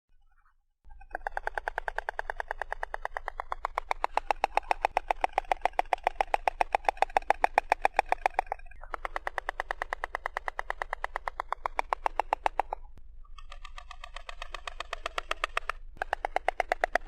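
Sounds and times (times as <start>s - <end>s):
stork clattering its bill: 1.0s - 17.0s.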